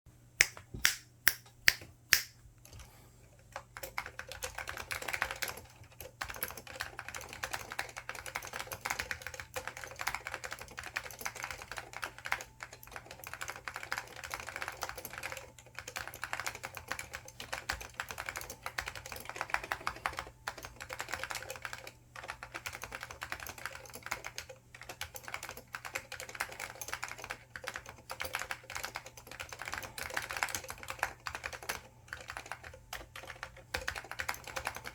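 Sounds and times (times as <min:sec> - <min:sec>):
keyboard typing: 0:03.6 - 0:34.9.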